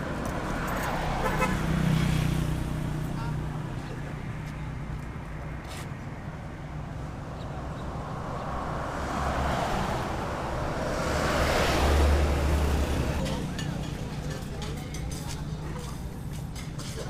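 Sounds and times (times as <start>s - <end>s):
wind and tyre noise: 0.0s - 16.8s.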